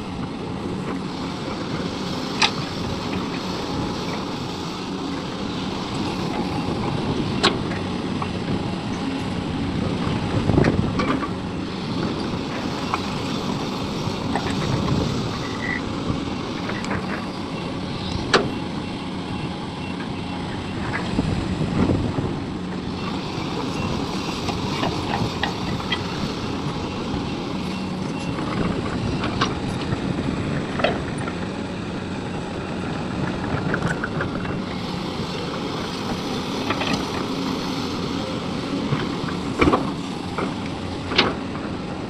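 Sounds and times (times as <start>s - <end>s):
excavator engine running: 0.0s - 42.0s.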